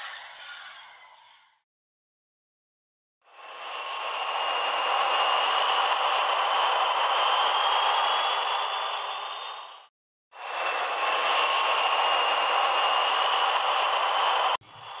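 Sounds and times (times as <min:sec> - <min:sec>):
high whine of motor: 0:00.0 - 0:01.6, 0:03.2 - 0:15.0
model trains whirring on track: 0:00.0 - 0:01.6, 0:03.3 - 0:15.0.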